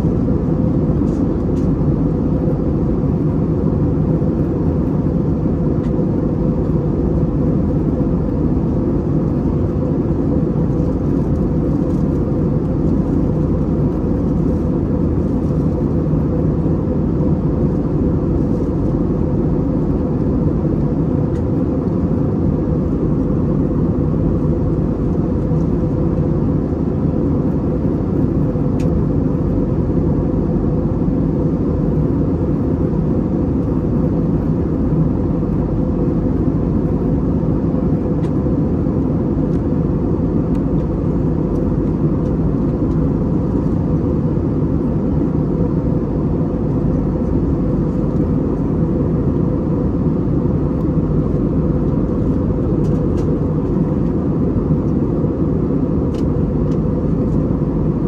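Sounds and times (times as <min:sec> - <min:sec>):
airplane cabin engine drone: 0:00.0 - 0:58.0
faint held hum: 0:00.0 - 0:58.0.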